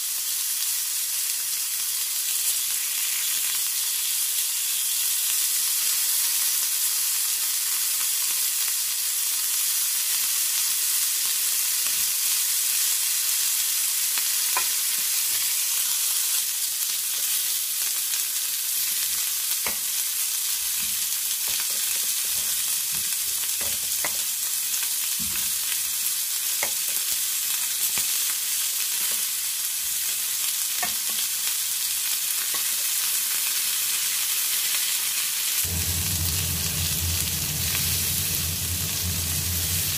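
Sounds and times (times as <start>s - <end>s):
chicken sizzling on a grill pan: 0.0s - 39.9s.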